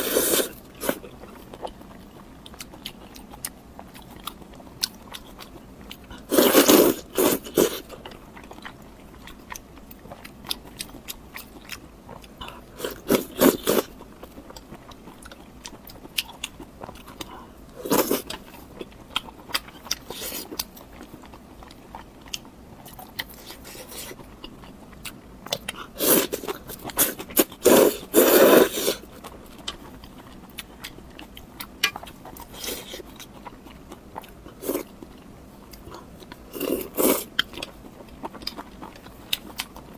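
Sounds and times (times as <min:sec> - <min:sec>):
crunchy food being chewed: 0:00.0 - 0:39.9.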